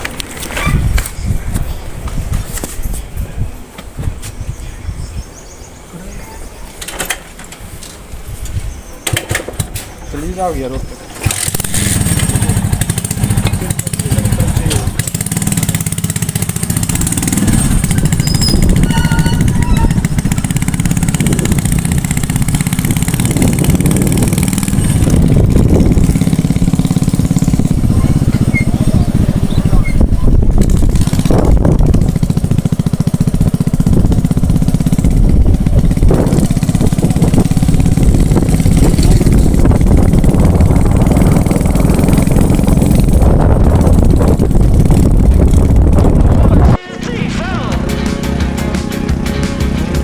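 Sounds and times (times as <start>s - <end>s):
motorcycle engine running: 8.1s - 50.0s.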